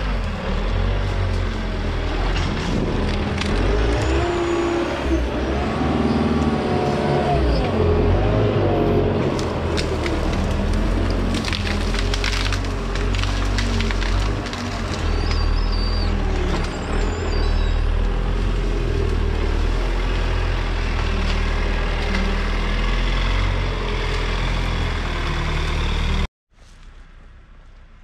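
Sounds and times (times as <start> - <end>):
faint outdoor sound: 0.0 - 28.0.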